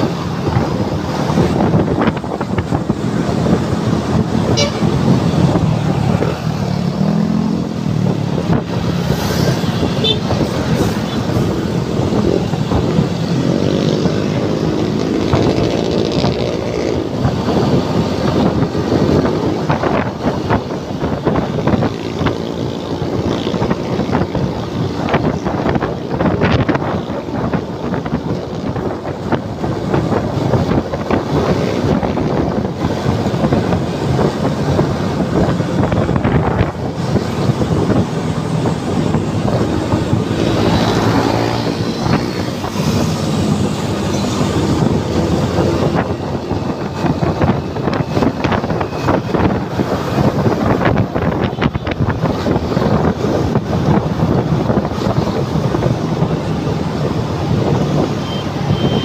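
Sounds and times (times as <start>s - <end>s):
road traffic: 0.0s - 59.0s
wind rushing over microphone: 0.0s - 59.0s.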